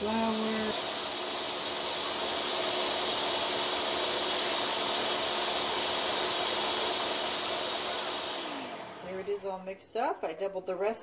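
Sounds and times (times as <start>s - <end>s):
blender motor whirring: 0.0s - 9.6s.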